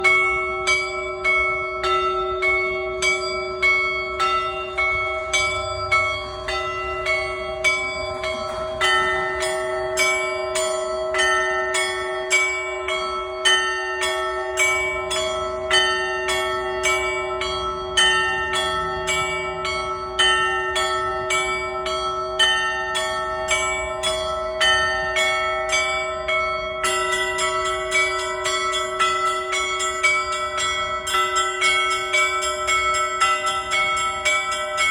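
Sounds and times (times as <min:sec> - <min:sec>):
large bell humming: 0:00.0 - 0:34.9
small church bells ringing: 0:00.0 - 0:34.9.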